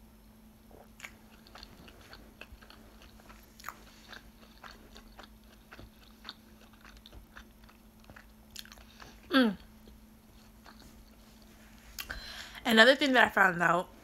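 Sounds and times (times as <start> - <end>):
steady low hum: 0.0 - 14.0
chewing with wet mouth clicks: 0.8 - 12.1.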